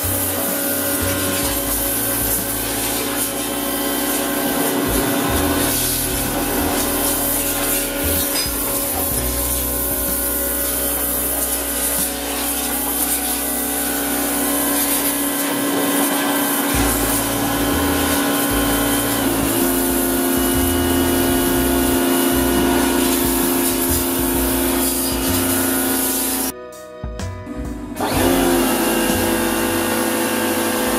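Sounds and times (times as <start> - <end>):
high-pressure water jet hissing: 0.0 - 26.5, 28.0 - 30.9
pressure washer motor humming: 0.0 - 26.5, 28.0 - 30.9.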